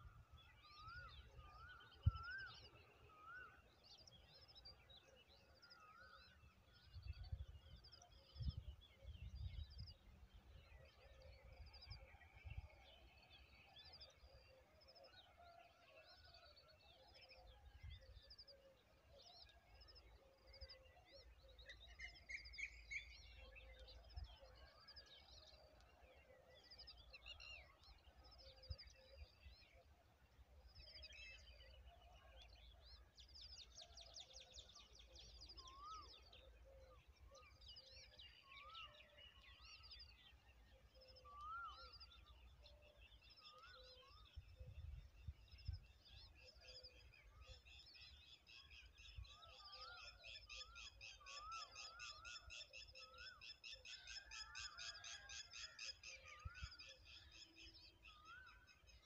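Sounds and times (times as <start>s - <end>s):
wild birds chirping and trilling: 0.0s - 59.0s.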